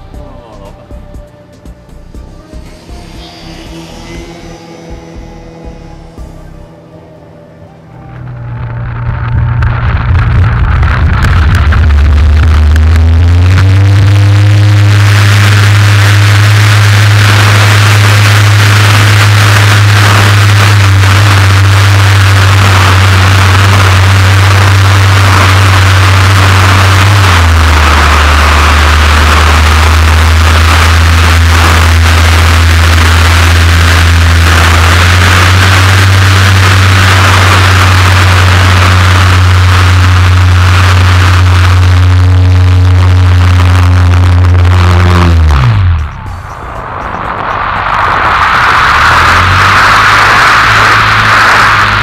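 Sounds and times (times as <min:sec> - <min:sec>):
model plane electric motor drone: 0:00.0 - 0:46.0, 0:47.9 - 0:52.0
rushing air noise: 0:01.9 - 0:52.0.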